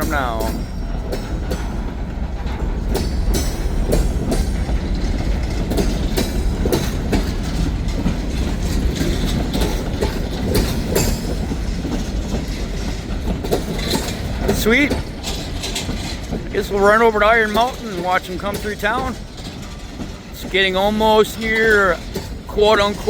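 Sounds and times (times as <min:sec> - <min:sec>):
train rolling past rumble: 0:00.0 - 0:23.0
wheels clacking over rail joints: 0:00.0 - 0:23.0.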